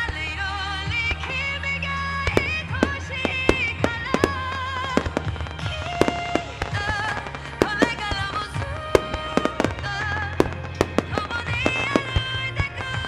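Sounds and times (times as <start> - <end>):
fireworks bangs and crackles: 0.0 - 13.0
music with wavering melody: 0.0 - 13.0.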